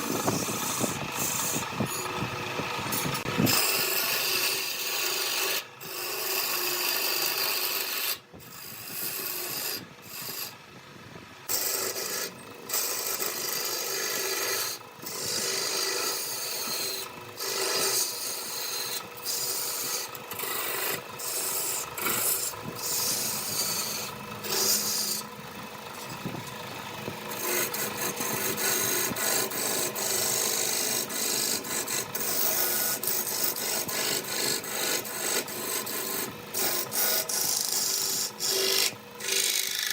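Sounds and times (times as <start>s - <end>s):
tool scraping wood on lathe: 0.0s - 10.6s, 11.5s - 39.9s.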